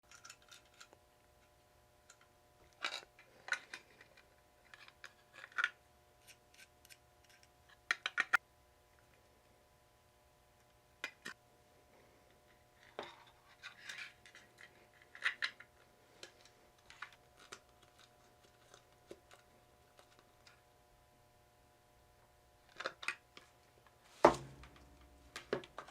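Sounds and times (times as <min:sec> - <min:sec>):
faint steady hum: 0:00.1 - 0:25.9.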